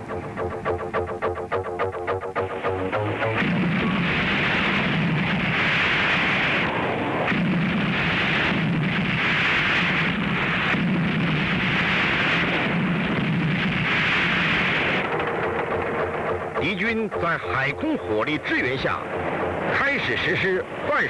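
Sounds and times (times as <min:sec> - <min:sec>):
artillery shell fire and explosions: 0:02.0 - 0:21.0.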